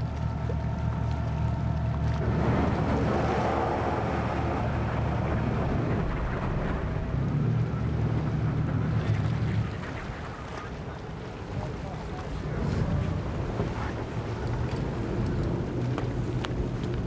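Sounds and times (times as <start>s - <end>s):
boat engine droning: 0.0s - 17.0s
ice crunching along hull: 0.0s - 17.0s.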